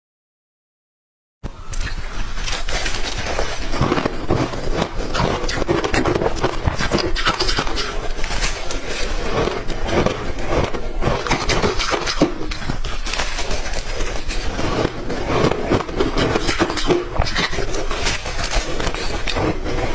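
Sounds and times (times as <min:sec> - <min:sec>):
person crunching ice: 0:01.6 - 0:19.9.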